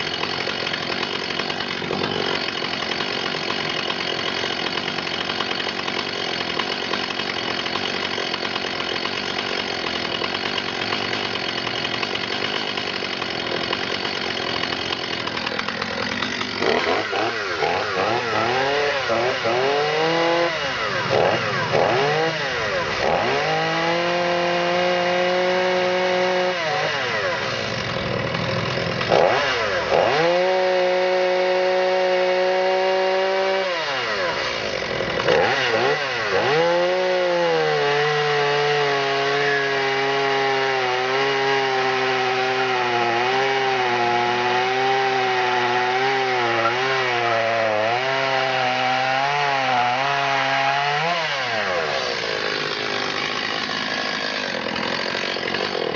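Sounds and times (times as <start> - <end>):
chainsaw cutting through log: 0.0 - 55.9.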